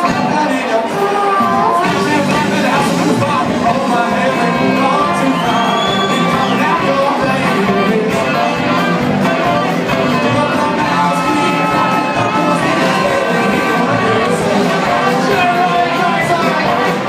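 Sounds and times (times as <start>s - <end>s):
live blues band playing: 0.0s - 17.0s.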